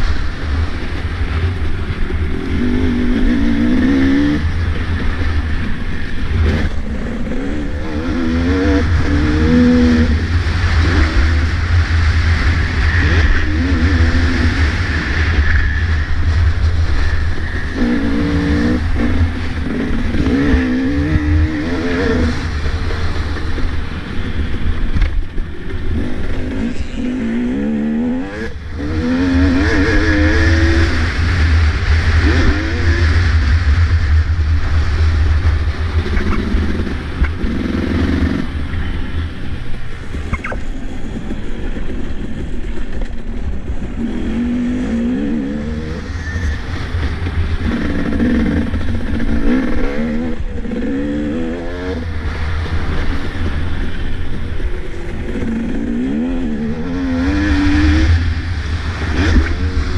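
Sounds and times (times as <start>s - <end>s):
wind buffeting microphone: 0.0s - 59.9s
motocross bike engine revving: 1.2s - 42.4s, 43.7s - 59.9s.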